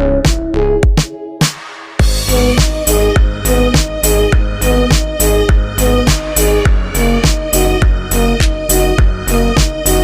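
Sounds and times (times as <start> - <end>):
music with steady drum beat: 0.3 - 10.0.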